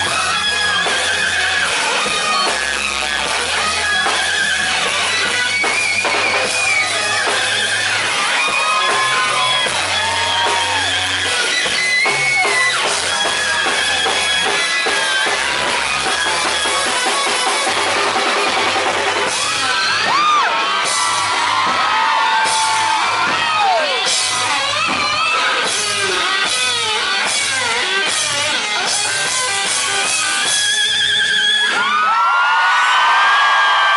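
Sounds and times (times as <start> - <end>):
pulsing bass line: 0.0 - 31.4
electric guitar bending notes: 0.0 - 31.9
live rock band playing: 0.0 - 33.9.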